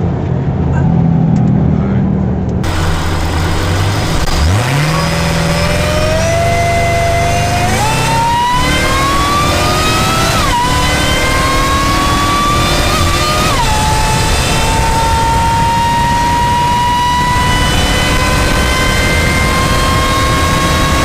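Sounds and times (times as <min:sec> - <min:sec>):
car engine accelerating hard: 0:00.0 - 0:21.0
supercharger whine: 0:00.0 - 0:21.0.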